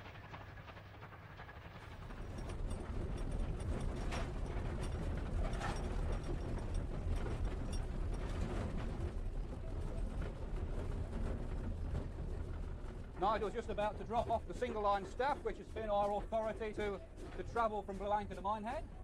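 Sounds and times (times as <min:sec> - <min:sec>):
steam locomotive running: 0:00.0 - 0:19.0
metallic clanks and rattles: 0:02.0 - 0:19.0.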